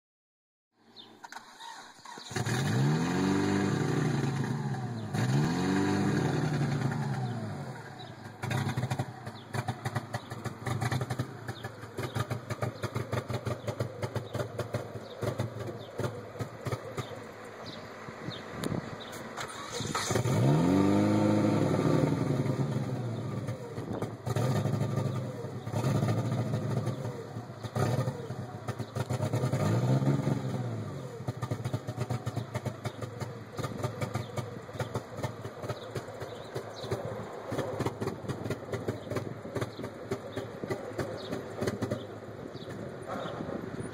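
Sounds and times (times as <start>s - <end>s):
engine revving: 1.2s - 43.9s
car engine idling rough: 6.0s - 20.4s, 22.0s - 43.9s.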